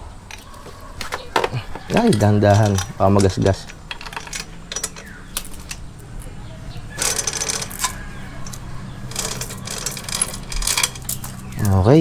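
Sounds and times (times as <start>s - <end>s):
metal chain links clinking: 0.2s - 12.0s.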